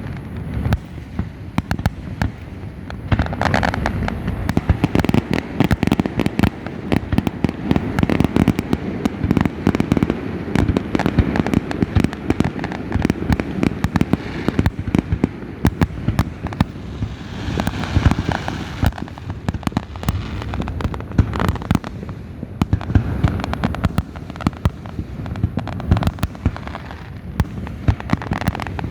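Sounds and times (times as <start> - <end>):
fireworks pops and bangs: 0.0 - 28.9.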